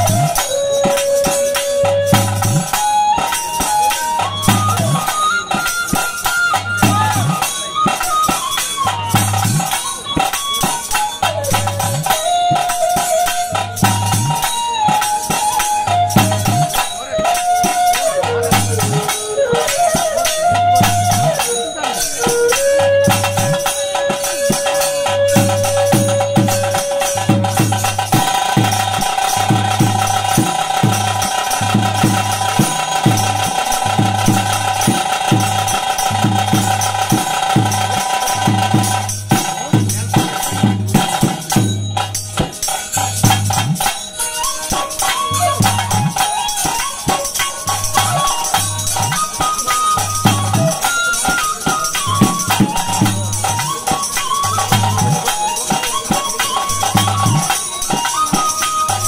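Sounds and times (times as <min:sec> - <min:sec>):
jingling percussion: 0:00.0 - 0:59.0
steady drum beat: 0:00.0 - 0:59.0.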